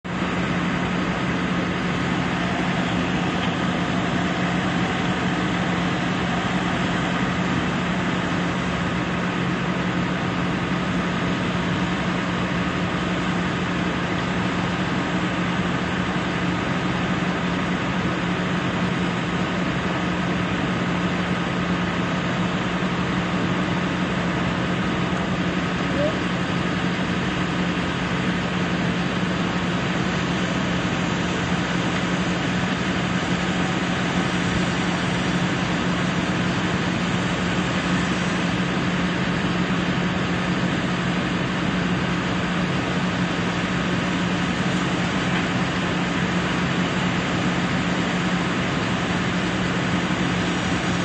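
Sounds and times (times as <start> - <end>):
machinery humming: 0.1 - 51.0.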